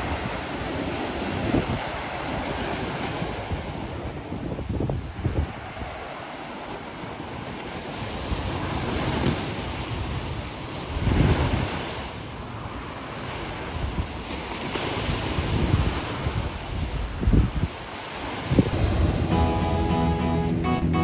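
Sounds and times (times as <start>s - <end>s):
wind buffeting microphone: 0.0s - 19.3s
sea waves breaking on seawall: 0.0s - 19.6s.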